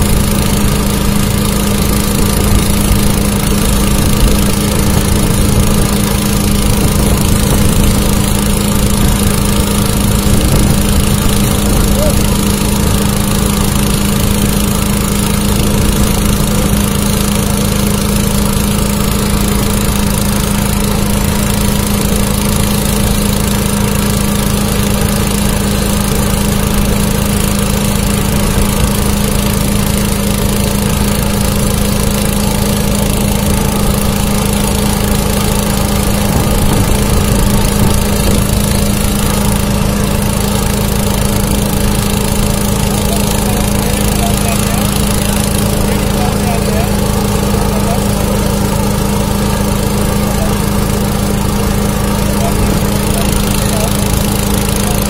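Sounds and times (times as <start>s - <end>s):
welding equipment hum: 0.0s - 55.0s.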